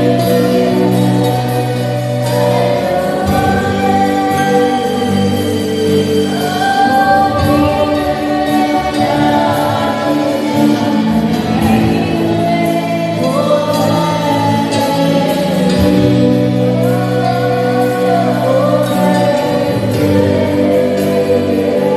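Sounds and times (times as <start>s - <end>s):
congregation singing with a band: 0.0s - 21.9s.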